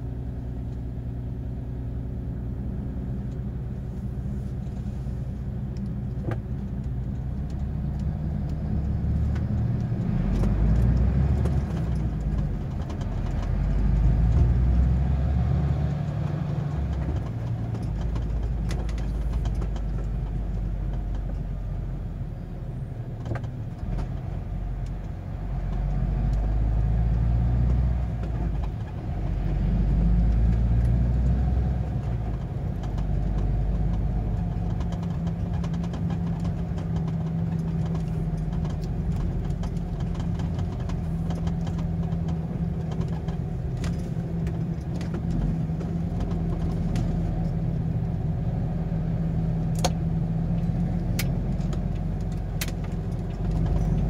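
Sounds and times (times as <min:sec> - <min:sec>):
truck engine accelerating: 0:00.0 - 0:54.0
faint clicks and rattles: 0:05.7 - 0:14.9, 0:15.7 - 0:21.8, 0:22.7 - 0:48.4, 0:49.6 - 0:54.0.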